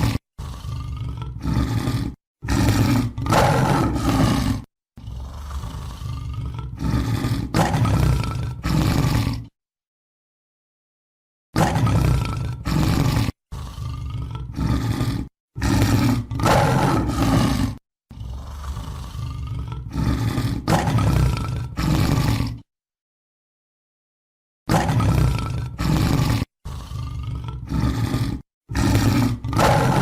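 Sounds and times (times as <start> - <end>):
tiger roaring: 0.0 - 9.6, 11.6 - 22.7, 24.7 - 30.0.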